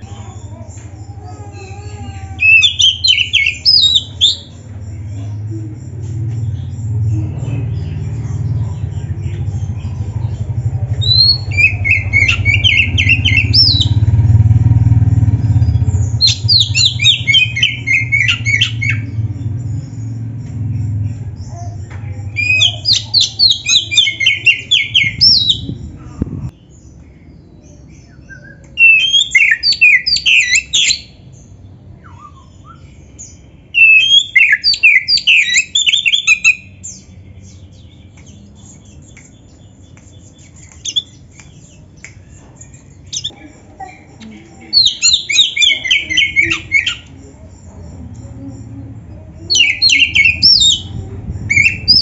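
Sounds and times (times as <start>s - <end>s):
songbird singing rapid high notes: 2.4s - 26.0s, 27.8s - 43.4s, 44.1s - 52.0s.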